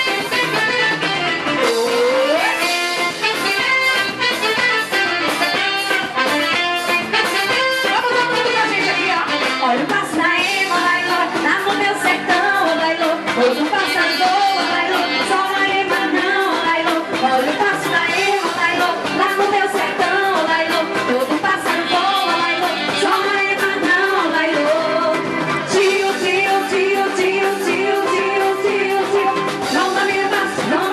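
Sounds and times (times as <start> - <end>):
brass band music with singing: 0.0 - 30.9.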